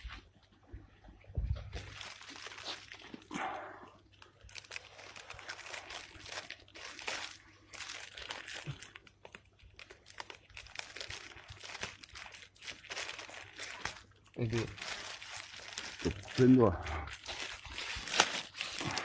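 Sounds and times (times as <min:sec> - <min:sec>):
crinkling and rustling: 0:00.0 - 0:19.0.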